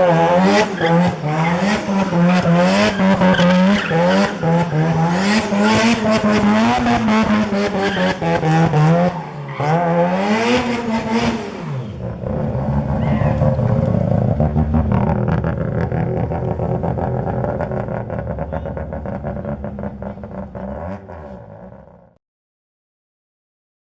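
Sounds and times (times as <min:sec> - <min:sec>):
rotary engine revving: 0:00.0 - 0:22.1.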